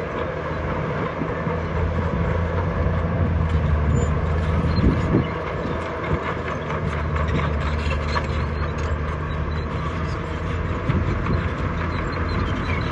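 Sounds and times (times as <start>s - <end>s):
heavy diesel engine running: 0.0s - 12.9s.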